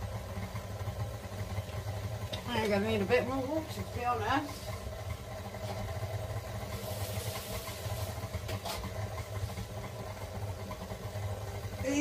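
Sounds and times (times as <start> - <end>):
stand mixer kneading dough: 0.0 - 12.0.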